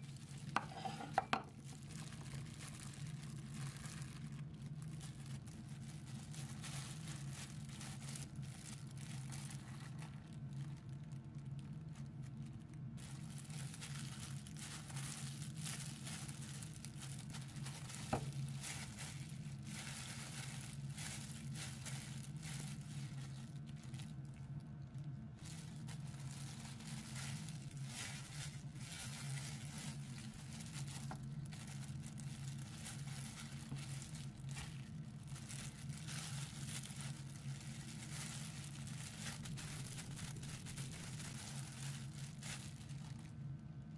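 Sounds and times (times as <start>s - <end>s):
plastic gloves crinkling: 0.0s - 43.9s
steady low hum: 0.0s - 43.9s.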